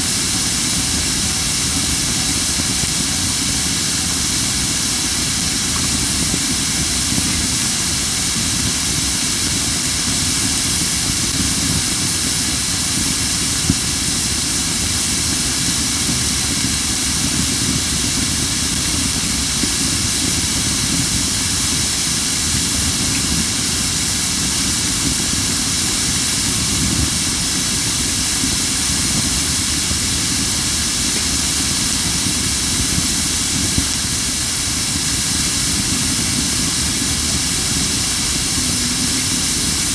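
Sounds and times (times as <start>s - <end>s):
firewood hissing steam: 0.0s - 39.9s.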